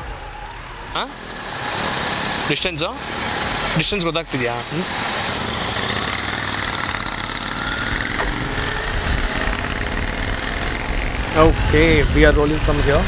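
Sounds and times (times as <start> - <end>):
motorcycle engines at low revs: 0.9 - 13.0.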